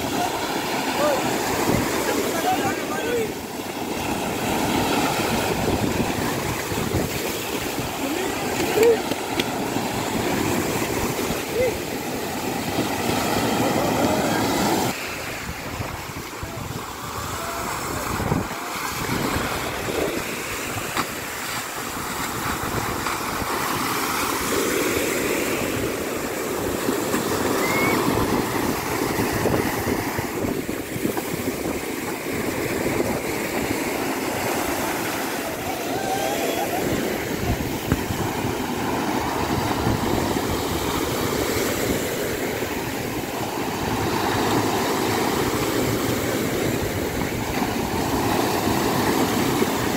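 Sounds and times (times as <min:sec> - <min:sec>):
small waves breaking on beach: 0:00.0 - 0:49.9
wind rumbling on microphone: 0:00.0 - 0:49.9.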